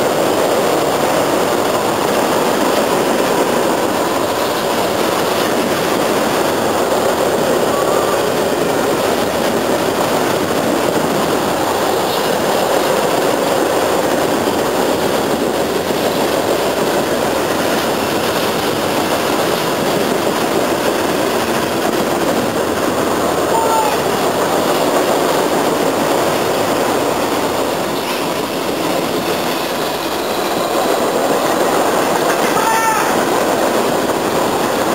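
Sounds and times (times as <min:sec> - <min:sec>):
train rolling by: 0:00.0 - 0:34.9.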